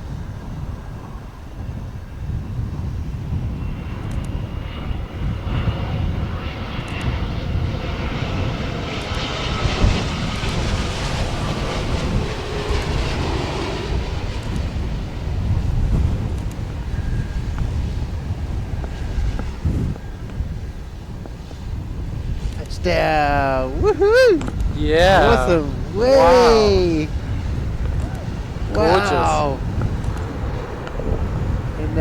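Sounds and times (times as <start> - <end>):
airliner jet engines whining: 0.0 - 32.0.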